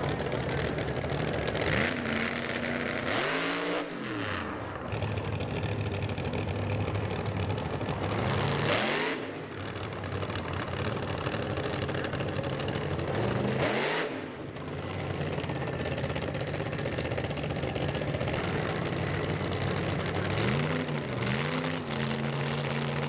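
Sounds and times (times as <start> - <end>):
supercharged engine idling: 0.0 - 3.0, 4.8 - 8.6, 9.4 - 13.6, 14.4 - 23.0.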